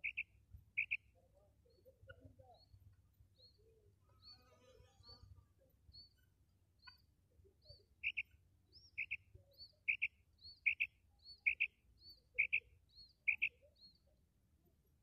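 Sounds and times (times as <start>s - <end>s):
faint high chirps: 0.0s - 14.2s.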